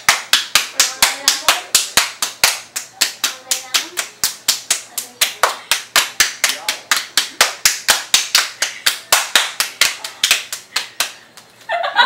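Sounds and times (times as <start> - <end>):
hand claps and palm slaps: 0.0 - 11.5.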